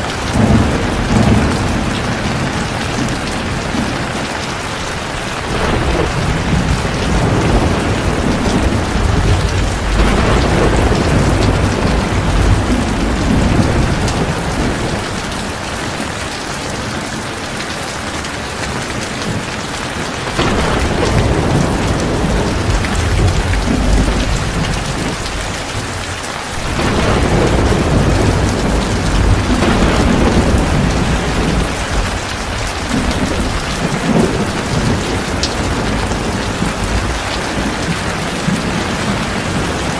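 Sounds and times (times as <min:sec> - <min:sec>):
deep rolling thunder: 0:00.0 - 0:16.8, 0:19.3 - 0:39.9
heavy rain falling: 0:00.0 - 0:39.9.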